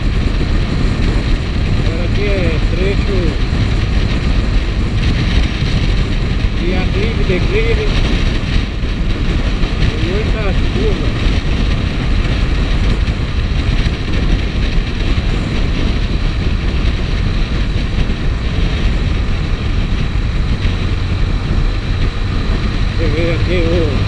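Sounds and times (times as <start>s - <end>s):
motorcycle engine running: 0.0s - 24.0s
wind rushing: 0.0s - 24.0s.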